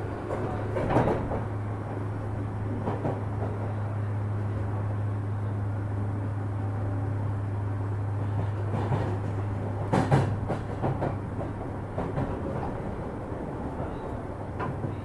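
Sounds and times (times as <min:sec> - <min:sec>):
train car low hum: 0:00.0 - 0:15.0.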